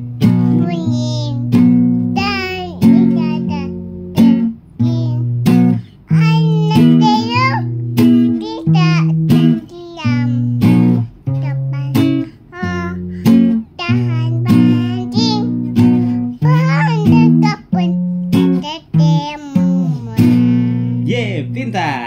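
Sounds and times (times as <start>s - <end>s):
acoustic guitar strumming: 0.0s - 22.0s
child singing: 0.2s - 21.0s.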